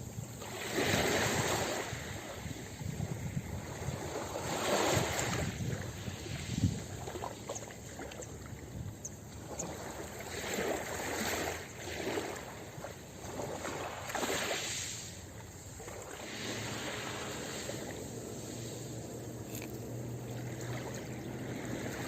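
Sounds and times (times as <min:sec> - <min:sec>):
ocean waves washing on beach: 0:00.0 - 0:22.0.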